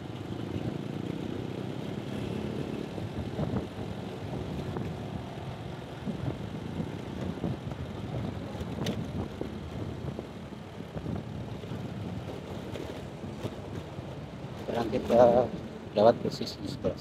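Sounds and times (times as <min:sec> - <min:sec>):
motorcycles and cars passing: 0:00.0 - 0:17.0.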